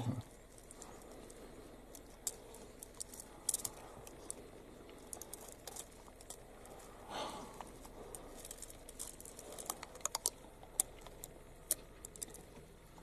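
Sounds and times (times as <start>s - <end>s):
low steady hum: 0.0s - 13.0s
animal teeth crunching: 0.1s - 13.0s.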